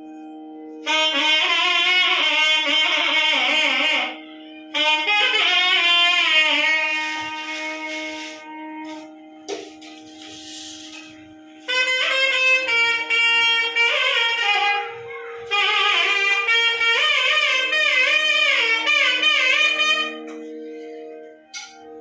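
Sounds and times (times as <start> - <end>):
reed instrument melody: 0.8 - 22.0
steady drone: 1.1 - 22.0.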